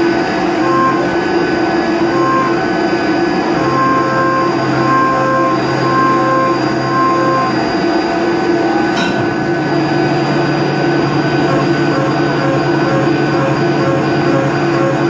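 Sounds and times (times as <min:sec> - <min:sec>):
machine cutting metal: 0:00.0 - 0:15.0.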